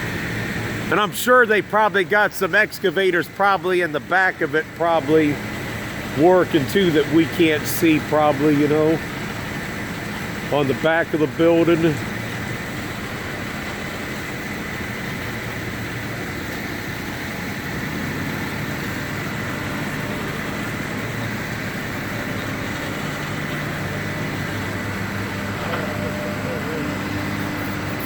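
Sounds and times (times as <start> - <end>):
constant background noise: 0.0 - 28.0
engine idling hum: 0.0 - 28.0.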